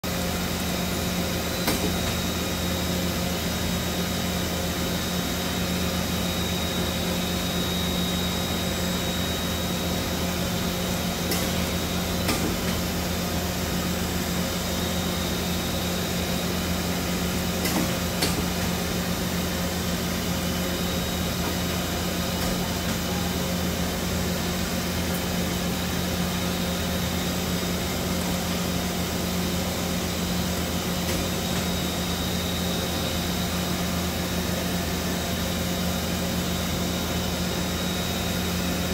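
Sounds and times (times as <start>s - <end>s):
lathe machine hum with high whine: 0.0s - 38.9s.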